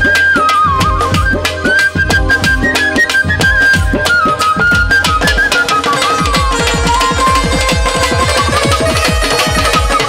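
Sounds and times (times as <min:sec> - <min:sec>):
fast hand-drum strokes: 0:00.0 - 0:10.0
wavering melody line: 0:00.0 - 0:10.0.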